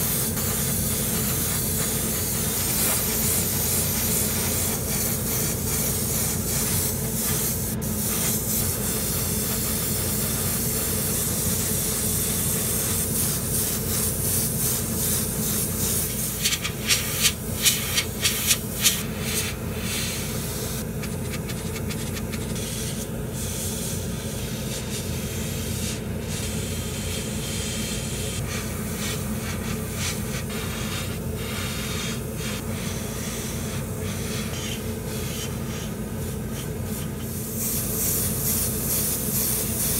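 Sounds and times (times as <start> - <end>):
airbrush spraying hiss: 0.0 - 39.9.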